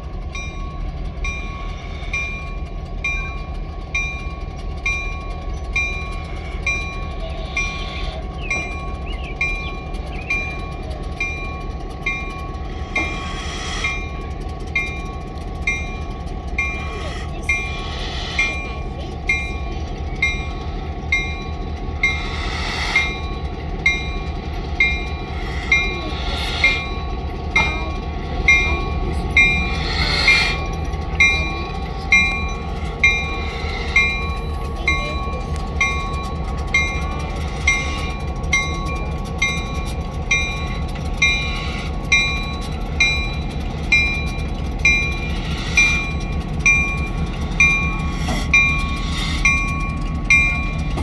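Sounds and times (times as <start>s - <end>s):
locomotive bell ringing: 0.0s - 51.0s
train rumble and wheel noise: 0.0s - 51.0s.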